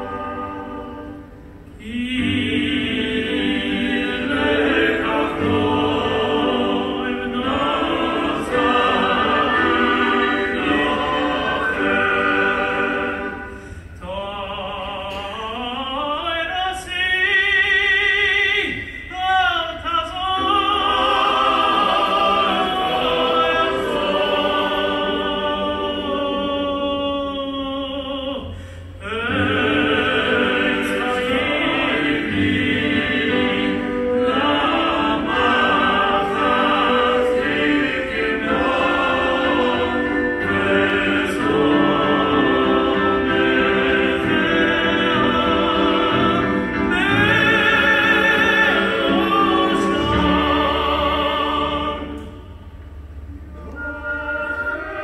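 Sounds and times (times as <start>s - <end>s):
male choir singing in harmony: 0.0s - 52.6s, 53.6s - 55.0s.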